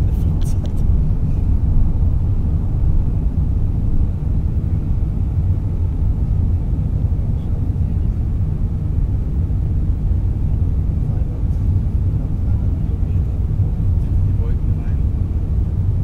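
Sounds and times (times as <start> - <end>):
airflow noise: 0.0 - 16.0
jet engines rumbling: 0.0 - 16.0.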